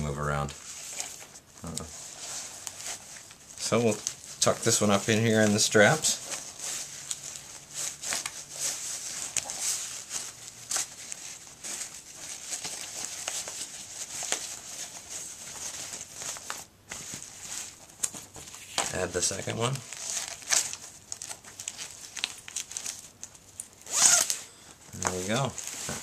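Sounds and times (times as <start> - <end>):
nylon fabric rustling: 0.2 - 26.0.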